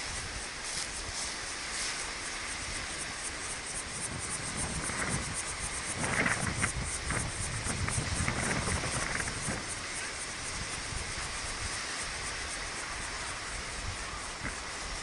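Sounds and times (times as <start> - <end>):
insects chirring: 0.0 - 15.0
wind rumble on microphone: 0.0 - 15.0.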